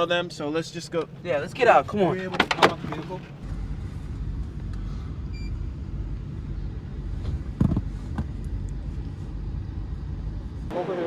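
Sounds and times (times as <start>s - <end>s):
car rumble from inside cabin: 0.9s - 10.7s.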